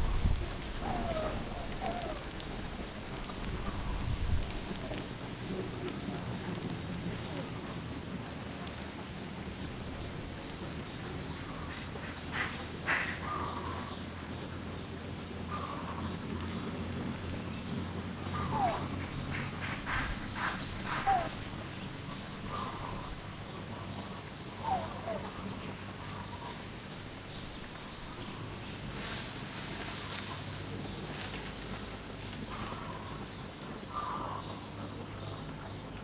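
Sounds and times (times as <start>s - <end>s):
high insect hum: 0.0s - 36.0s.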